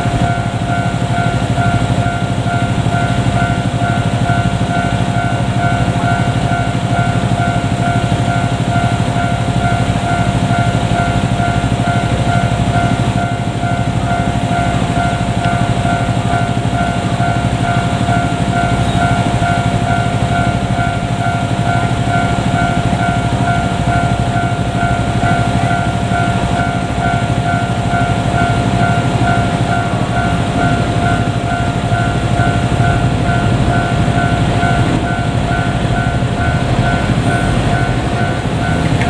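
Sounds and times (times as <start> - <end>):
diesel railcar rumbling: 0.0 - 39.0
level-crossing warning bell: 0.0 - 39.0.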